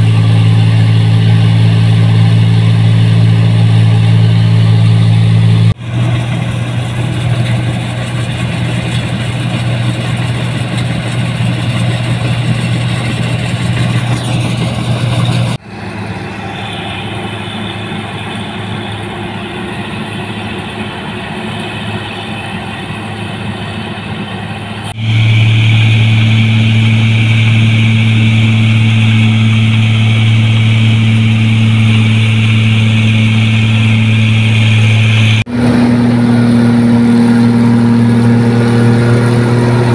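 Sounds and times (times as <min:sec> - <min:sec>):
combine harvester diesel engine hum: 0:00.0 - 0:39.9
high machinery whirr: 0:00.0 - 0:39.9.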